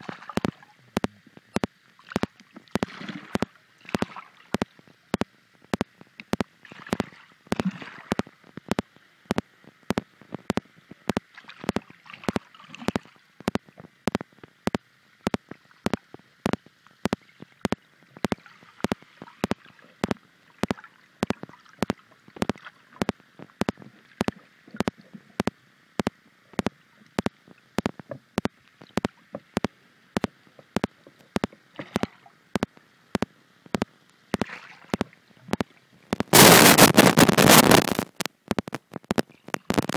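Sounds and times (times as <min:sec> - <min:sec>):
muffled underwater haze: 0:00.0 - 0:39.9.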